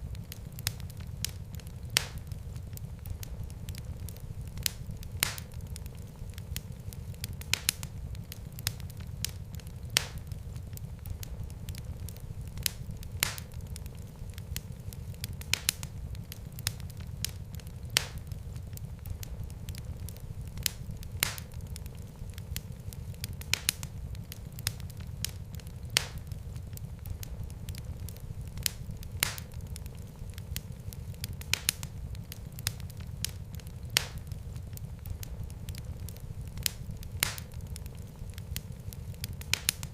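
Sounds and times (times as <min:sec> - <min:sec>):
fire crackles and sharp pops: 0:00.0 - 0:39.9
low rumble of flames: 0:00.0 - 0:39.9.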